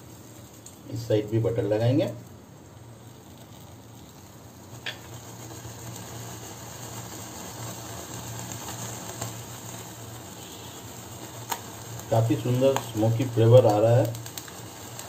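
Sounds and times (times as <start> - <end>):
chicken sizzling over flame: 0.0 - 15.0
gas burner hiss: 0.0 - 15.0.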